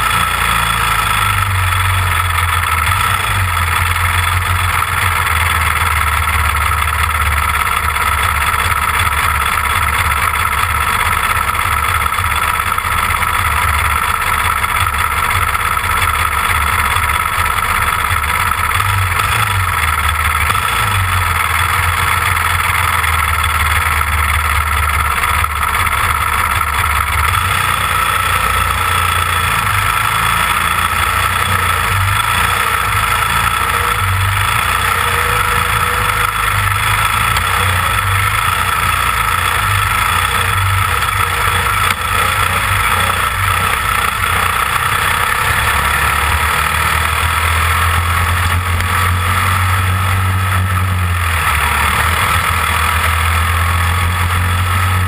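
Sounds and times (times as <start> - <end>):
kart engine running at low revs: 0.0 - 55.0.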